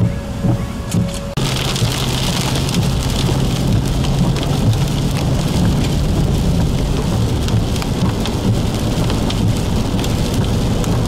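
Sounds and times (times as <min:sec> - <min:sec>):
car running hum: 0:00.0 - 0:11.0
rain and hail on car roof: 0:01.0 - 0:11.0.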